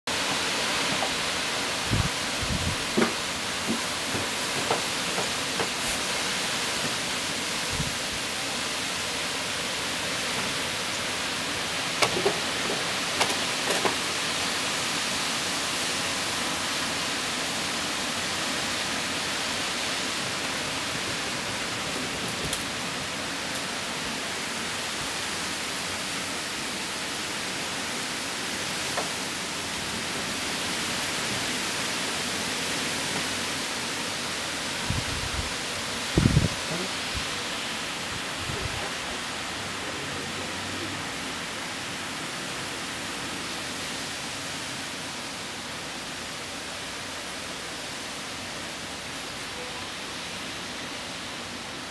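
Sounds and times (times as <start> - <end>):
heavy rain pouring: 0.1 - 51.9.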